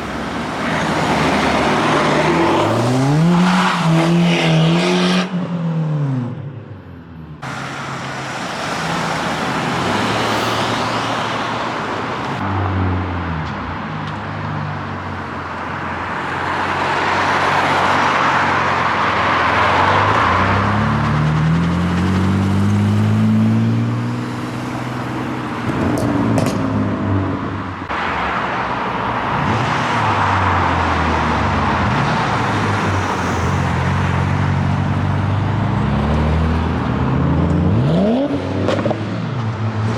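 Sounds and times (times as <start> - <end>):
cars accelerating past: 0.0 - 6.3, 7.4 - 39.9
tyre and road noise: 0.0 - 6.3, 6.9 - 39.9.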